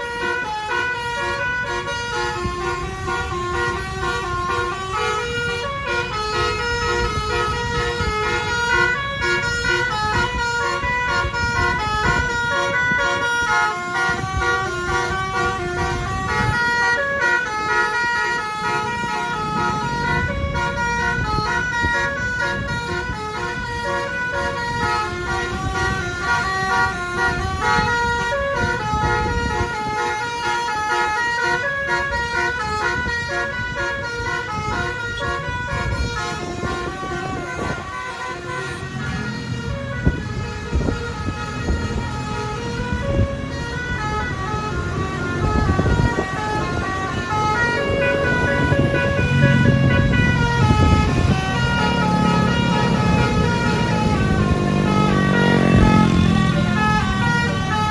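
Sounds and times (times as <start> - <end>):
bus multi-tone horn melody: 0.0 - 57.9
vehicle and road rumble: 0.0 - 57.9.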